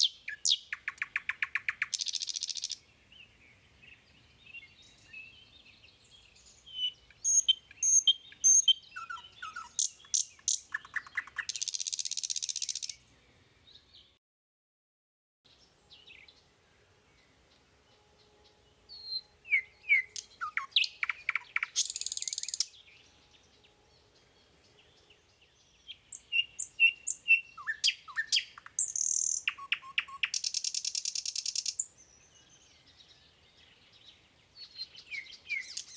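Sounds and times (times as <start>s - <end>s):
small bird chirping: 0.0s - 14.2s, 18.9s - 23.6s, 24.4s - 35.9s.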